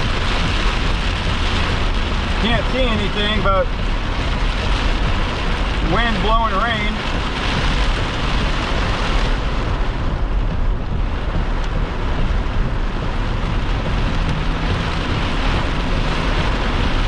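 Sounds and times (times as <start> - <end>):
rain beating on vehicle: 0.0 - 17.0
strong wind: 0.0 - 17.0.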